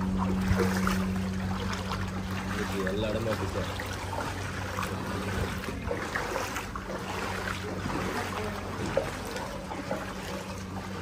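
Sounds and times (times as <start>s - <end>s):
floodwater sloshing around car: 0.0s - 11.0s.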